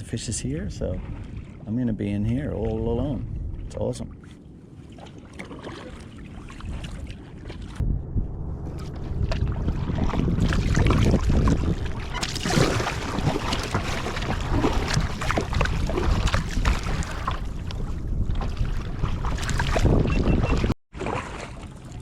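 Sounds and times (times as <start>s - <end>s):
water splashing around kayak: 0.0s - 7.9s, 8.6s - 22.0s
wind buffeting microphone: 0.0s - 20.7s.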